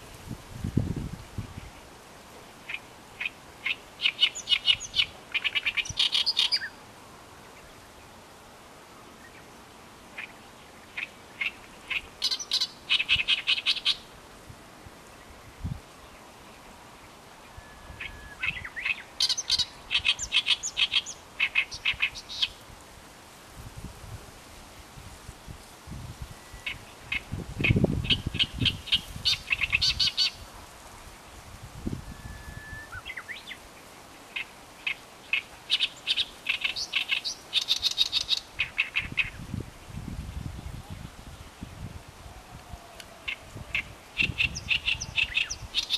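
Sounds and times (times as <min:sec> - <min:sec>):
songbird chirping: 0:01.5 - 0:22.6, 0:25.5 - 0:30.4, 0:31.8 - 0:45.9.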